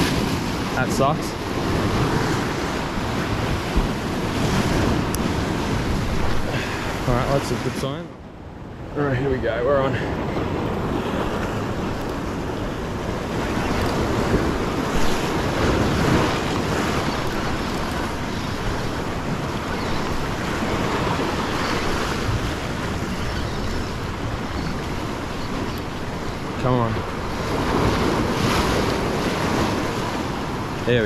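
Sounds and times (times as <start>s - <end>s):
ocean surf washing on rock: 0.0s - 31.0s
wind buffeting microphone: 0.0s - 31.0s.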